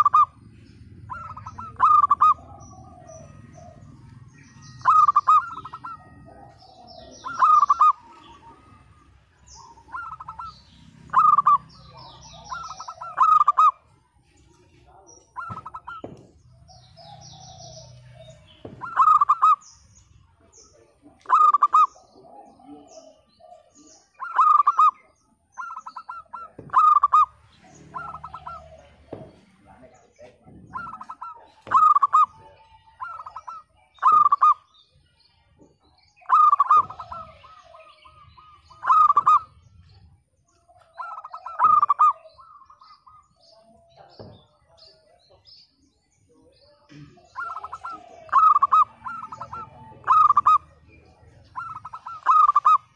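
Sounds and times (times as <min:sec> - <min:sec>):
dove cooing: 0:00.0 - 0:13.9, 0:14.9 - 0:19.7, 0:21.2 - 0:34.7, 0:36.2 - 0:45.0, 0:47.0 - 0:52.9
small birds chirping: 0:00.0 - 0:52.9.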